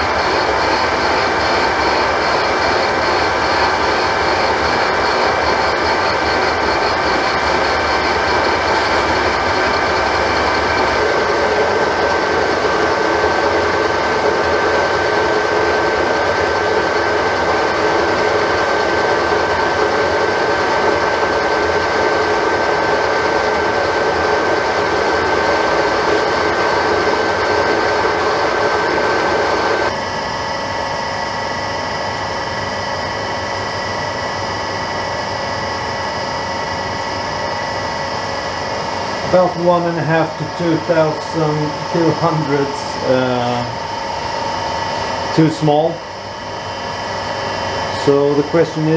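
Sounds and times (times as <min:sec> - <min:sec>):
metal lathe machining: 0:00.0 - 0:48.9
thin steady whine: 0:00.0 - 0:48.9.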